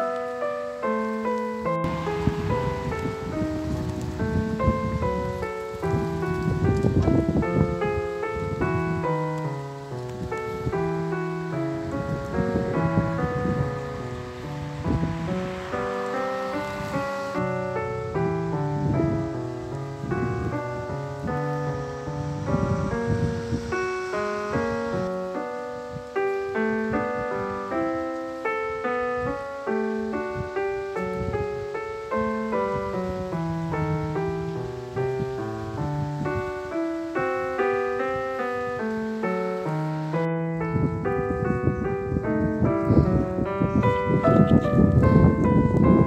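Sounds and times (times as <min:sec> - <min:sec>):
slow piano melody: 0:00.0 - 0:46.0.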